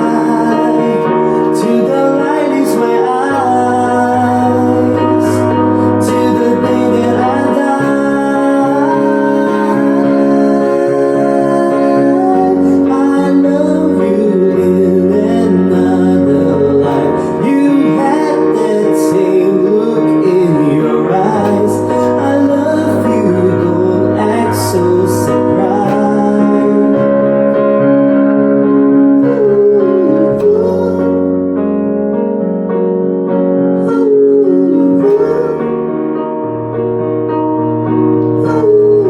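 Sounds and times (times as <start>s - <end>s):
person singing gliding melody: 0.0s - 31.8s, 33.3s - 36.4s, 38.2s - 39.0s
electric piano chords: 0.0s - 39.0s.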